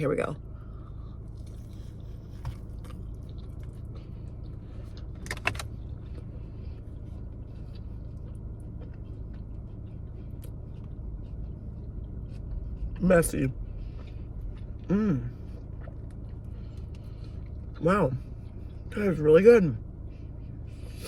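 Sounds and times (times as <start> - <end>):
steady low hum: 0.0 - 21.0
chewing with wet mouth clicks: 0.7 - 18.9.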